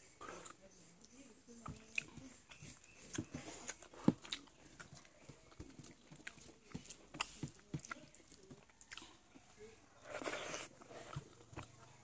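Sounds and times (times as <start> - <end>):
person chewing and smacking: 1.6 - 12.0.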